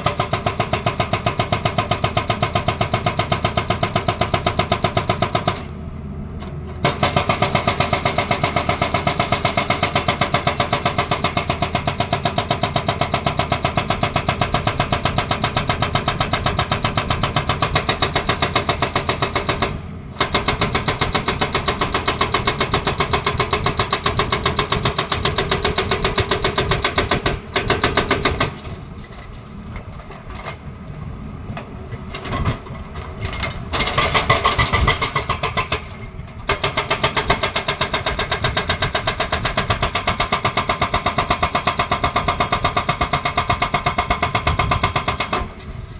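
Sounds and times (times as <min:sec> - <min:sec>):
hydraulic rock breaker hammering: 0:00.0 - 0:05.8, 0:06.4 - 0:30.7, 0:31.5 - 0:45.9
excavator engine running: 0:00.0 - 0:45.9.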